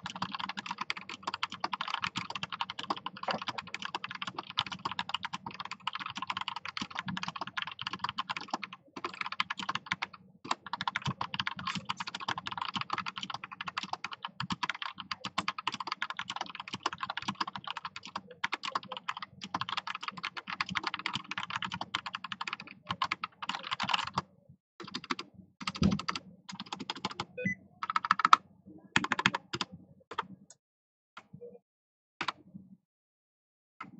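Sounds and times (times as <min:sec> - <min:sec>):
mechanical keyboard typing: 0:00.0 - 0:24.2, 0:24.8 - 0:28.4, 0:29.0 - 0:30.3.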